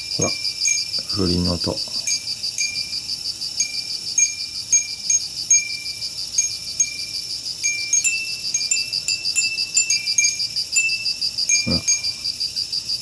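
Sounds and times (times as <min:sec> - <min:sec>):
glass wind bells tinkling: 0:00.0 - 0:12.4
high insect trill: 0:00.0 - 0:13.0.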